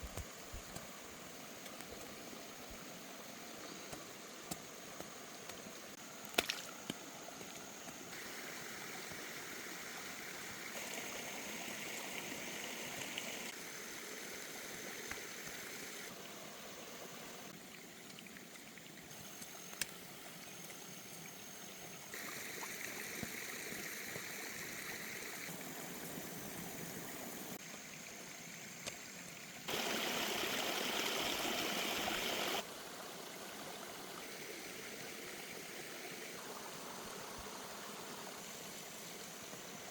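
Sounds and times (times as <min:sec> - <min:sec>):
stream water rushing: 0:00.0 - 0:28.2, 0:28.9 - 0:39.9.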